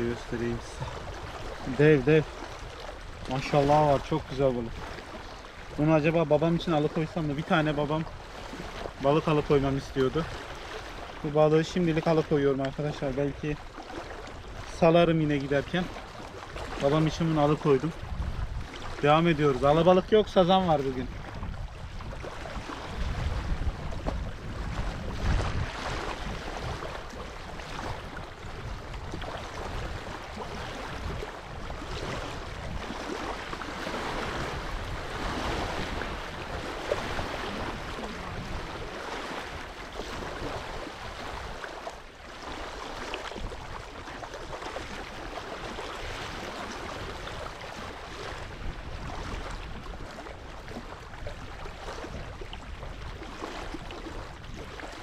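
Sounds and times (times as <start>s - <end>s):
wind buffeting microphone: 0.0s - 41.8s, 42.4s - 55.0s
small waves washing ashore: 0.0s - 55.0s
steady wind: 0.0s - 55.0s.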